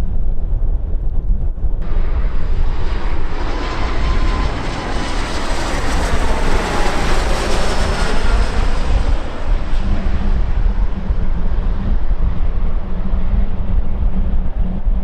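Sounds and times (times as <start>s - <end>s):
wind rumble on microphone: 0.0s - 15.0s
jet airliner passing: 1.8s - 14.8s.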